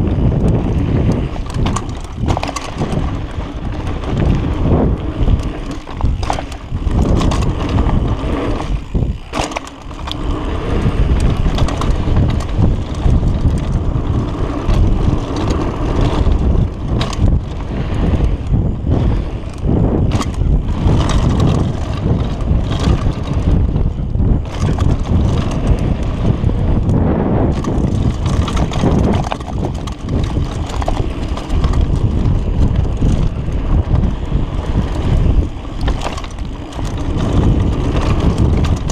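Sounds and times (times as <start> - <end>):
bike rattling clicks and knocks: 0.0 - 38.9
tyres rumbling on dirt: 0.0 - 38.9
wind buffeting microphone: 0.0 - 38.9.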